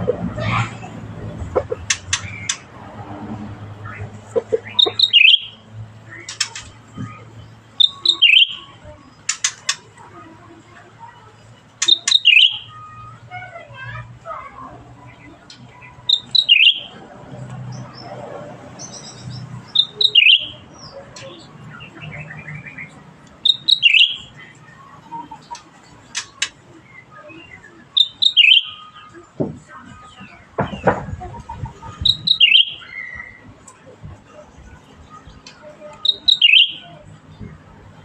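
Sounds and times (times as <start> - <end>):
soft bird chirps and twitters: 0.4 - 2.8, 3.6 - 38.0.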